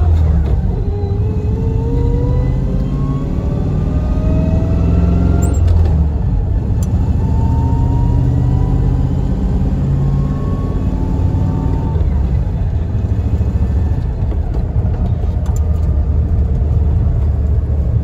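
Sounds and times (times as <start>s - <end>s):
car engine rumble under acceleration: 0.0s - 18.0s.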